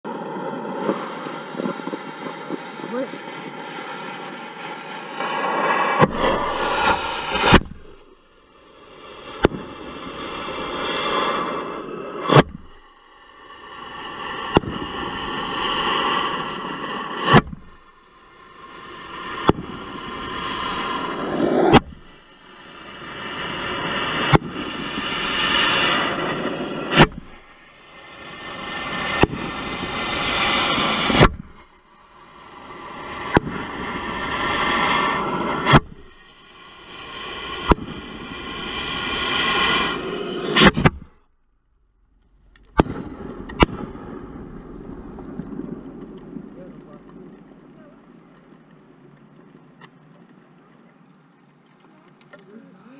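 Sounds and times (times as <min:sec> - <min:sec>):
firework hissing: 0:00.1 - 0:41.2, 0:42.3 - 0:48.8
firework bangs: 0:00.8 - 0:41.2, 0:42.6 - 0:48.0.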